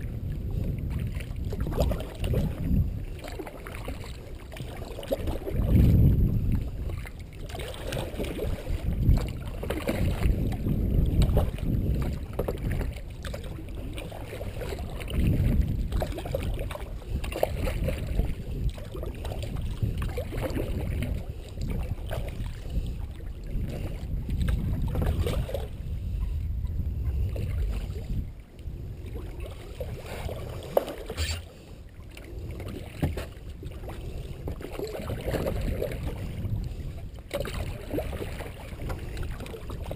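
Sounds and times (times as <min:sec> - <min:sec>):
paddle strokes splashing water: 0:00.5 - 0:26.4, 0:27.1 - 0:39.9.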